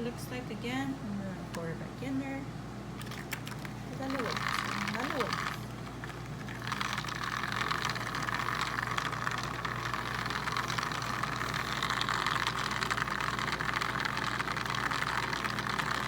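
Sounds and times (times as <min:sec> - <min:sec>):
toy washing machine motor whirring: 0:03.0 - 0:16.0.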